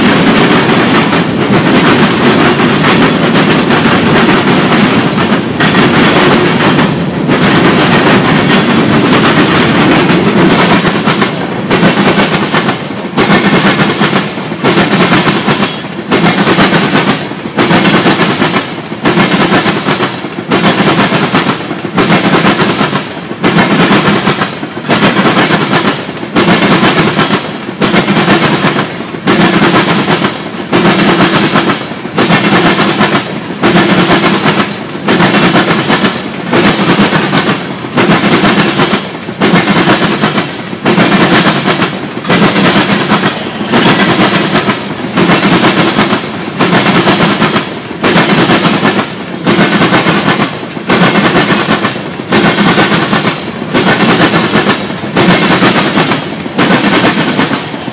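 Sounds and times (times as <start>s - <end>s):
train wheels clattering on rails: 0.0s - 57.9s.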